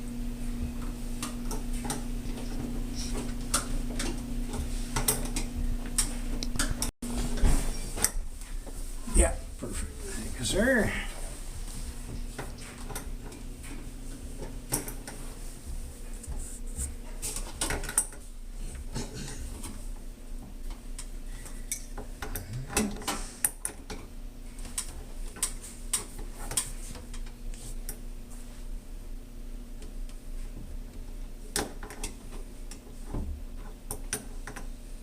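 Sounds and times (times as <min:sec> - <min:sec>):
steady low hum: 0:00.0 - 0:31.6.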